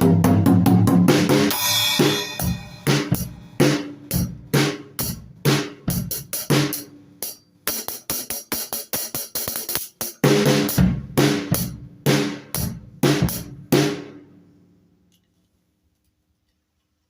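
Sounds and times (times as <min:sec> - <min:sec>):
drum kit playing: 0:00.0 - 0:14.4.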